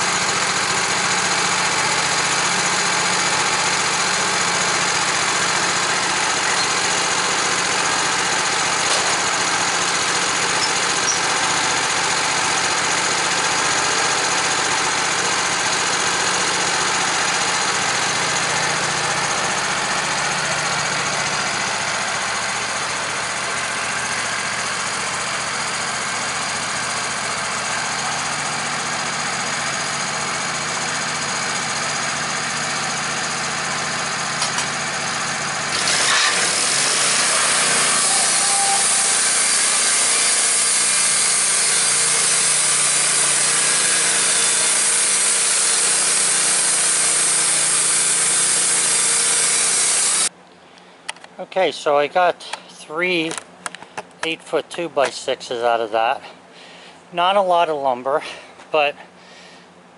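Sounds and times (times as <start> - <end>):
saw cutting log: 0.0 - 50.3
sawmill engine running: 0.0 - 50.4.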